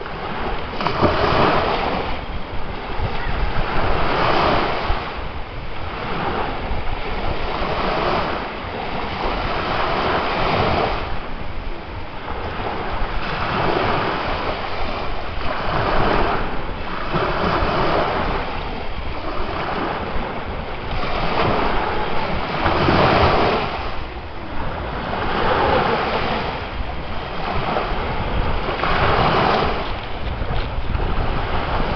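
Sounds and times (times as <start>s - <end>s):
ocean waves breaking on shore: 0.0s - 31.9s.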